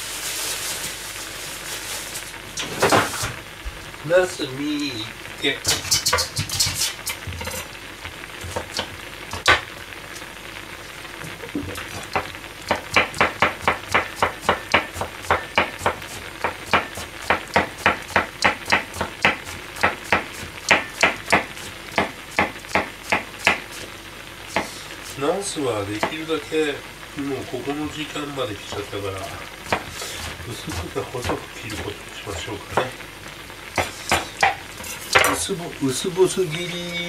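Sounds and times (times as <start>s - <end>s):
broth bubbling in a pan: 0.0s - 37.0s.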